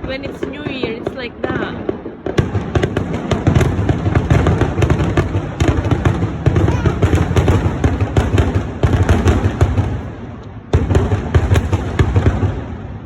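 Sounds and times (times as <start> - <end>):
fireworks sharp bangs: 0.0 - 13.0.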